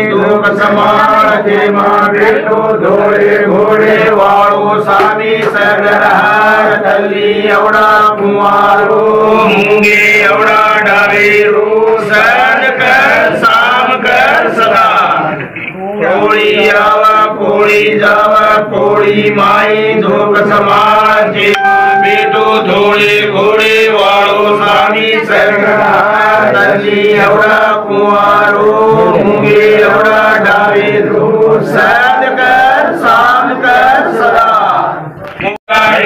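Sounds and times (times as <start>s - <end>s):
men chanting a prayer: 0.0s - 21.6s, 22.3s - 36.0s.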